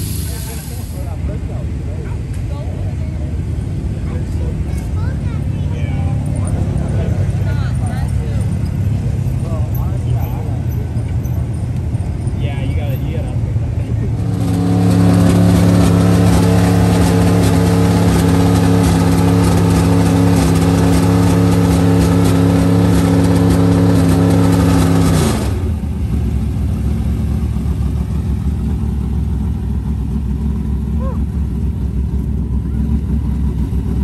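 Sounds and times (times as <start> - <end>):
race car engine: 0.0 - 34.0.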